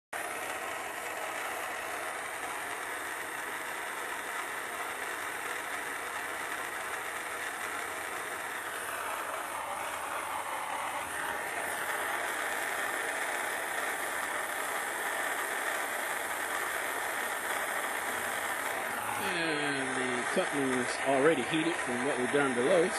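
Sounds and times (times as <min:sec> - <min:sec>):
gas torch flame hissing: 0:00.2 - 0:22.9.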